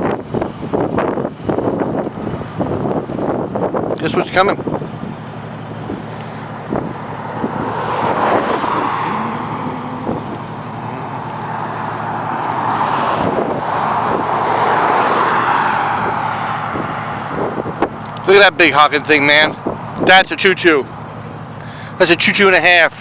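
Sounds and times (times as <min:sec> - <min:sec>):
passing vehicles: 0:00.0 - 0:23.0.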